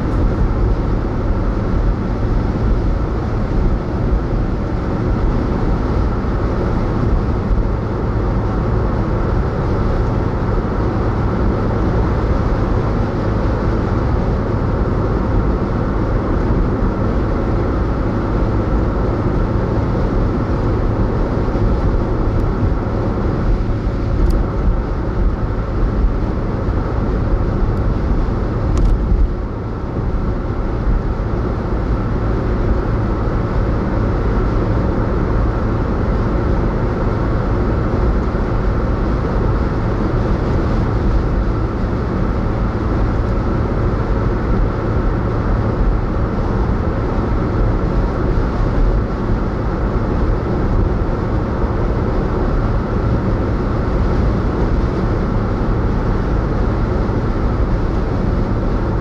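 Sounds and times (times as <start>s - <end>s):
low engine hum: 0.0s - 59.0s
tyre and road noise: 0.0s - 59.0s.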